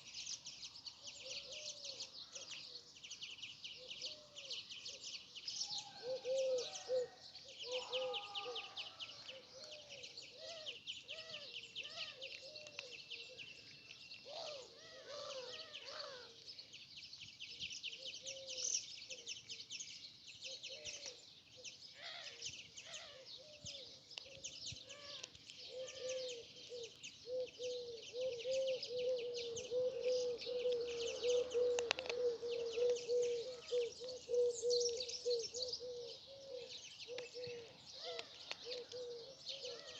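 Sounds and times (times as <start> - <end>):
small birds chirping: 0.0 - 39.9
low cooing calls: 1.0 - 2.9, 3.8 - 16.4, 18.0 - 19.3, 20.5 - 21.2, 22.0 - 39.9.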